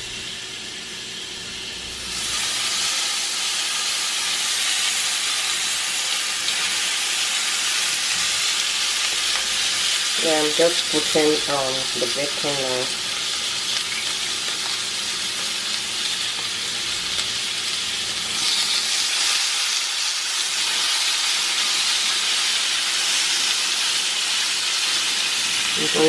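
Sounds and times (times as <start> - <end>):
bacon sizzling in a pan: 0.0 - 26.0.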